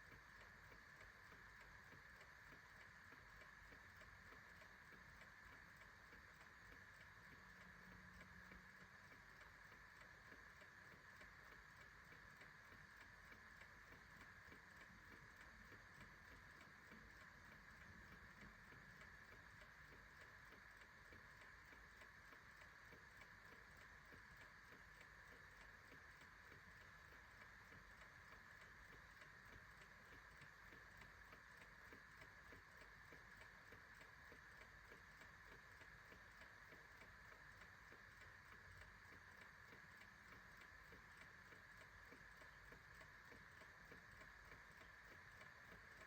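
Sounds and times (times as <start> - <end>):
clock ticking: 0.0 - 46.0.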